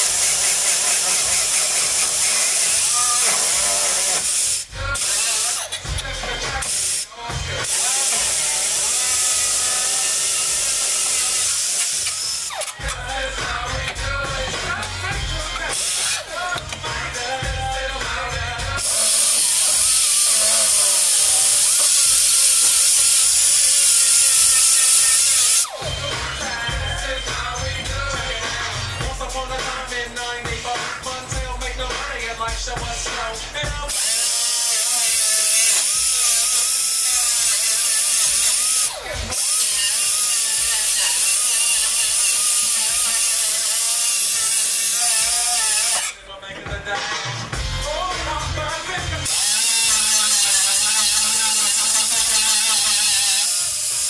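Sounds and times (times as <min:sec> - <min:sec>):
cut-off wheel grinding metal: 0:00.0 - 0:31.2, 0:33.2 - 0:46.2, 0:49.2 - 0:54.0.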